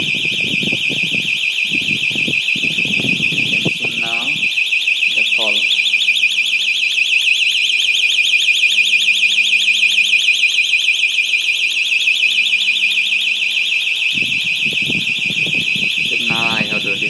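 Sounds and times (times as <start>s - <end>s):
security alarm siren warbling: 0.0s - 17.0s.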